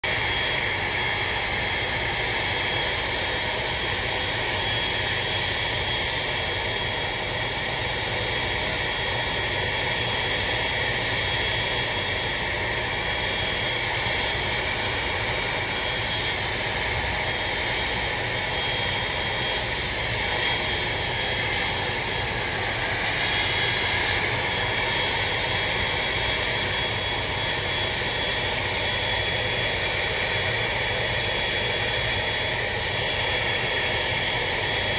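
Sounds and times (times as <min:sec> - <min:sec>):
jet airliner engine rumble: 0:00.0 - 0:34.9.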